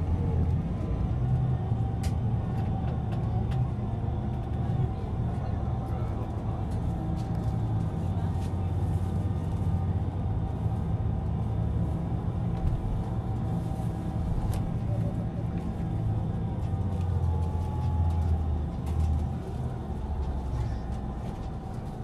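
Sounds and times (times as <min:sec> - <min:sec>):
bus engine and tyre rumble: 0:00.0 - 0:22.0.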